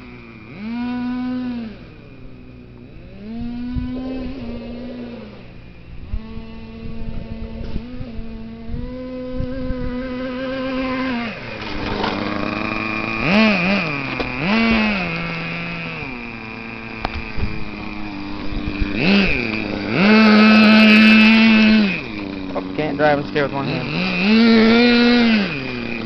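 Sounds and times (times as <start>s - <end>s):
small engine buzzing and revving: 0.0s - 26.0s.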